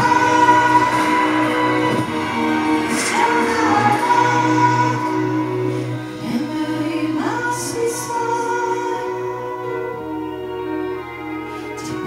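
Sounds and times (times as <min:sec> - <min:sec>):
person singing: 0:00.0 - 0:12.0
song with long held notes: 0:00.0 - 0:12.0.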